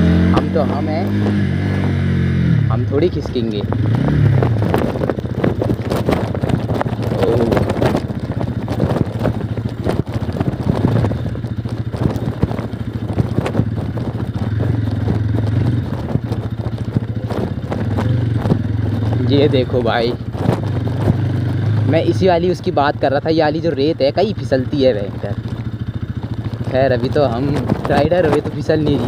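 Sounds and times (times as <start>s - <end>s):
wind on microphone: 0.0s - 22.9s, 24.9s - 29.0s
motorcycle engine at low speed: 0.0s - 29.0s
knocks and rattles: 2.7s - 29.0s.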